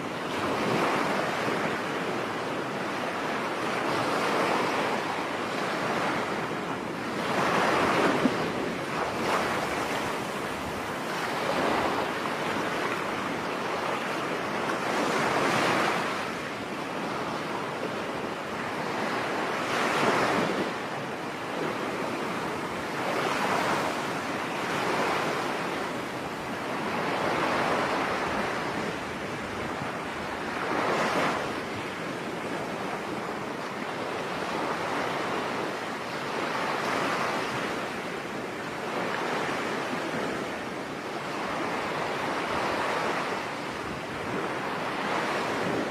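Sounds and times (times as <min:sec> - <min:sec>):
sea waves washing onto beach: 0:00.0 - 0:45.9.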